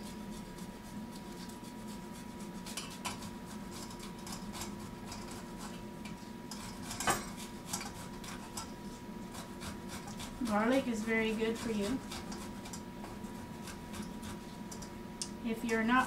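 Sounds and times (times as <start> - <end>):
garlic grated on metal grater: 0.0 - 5.8, 6.5 - 14.8.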